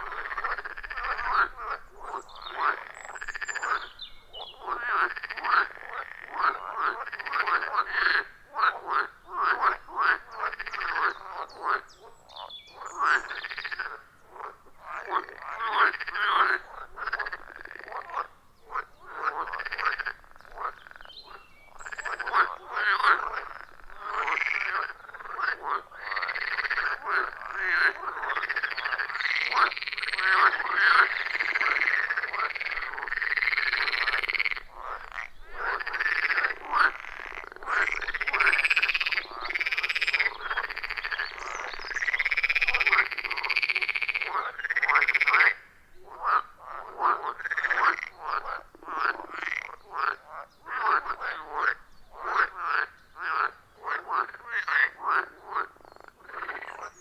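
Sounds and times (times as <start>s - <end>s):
frogs croaking chorus: 0.0s - 57.0s.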